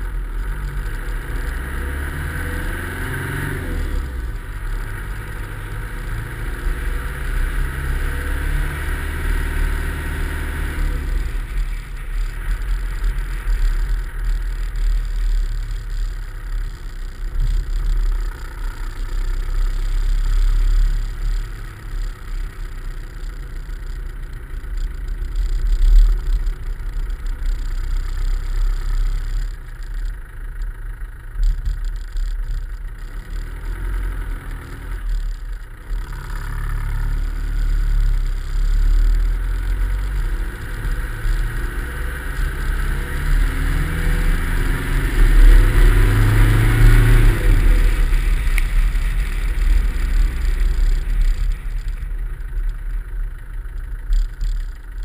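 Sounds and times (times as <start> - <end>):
car engine hum: 0.0 - 55.0
road rumble: 0.0 - 55.0.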